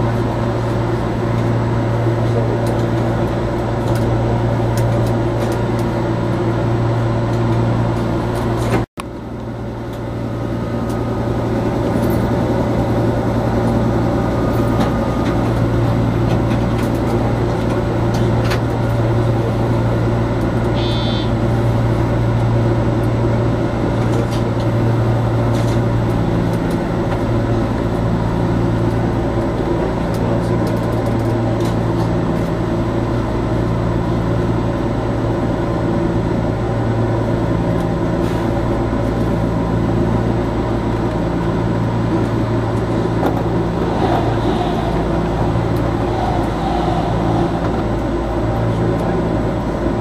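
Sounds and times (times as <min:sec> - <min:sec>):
electric train low hum: 0:00.0 - 0:50.0
oncoming train passing: 0:00.0 - 0:50.0
wheels rumbling on rails: 0:00.0 - 0:50.0.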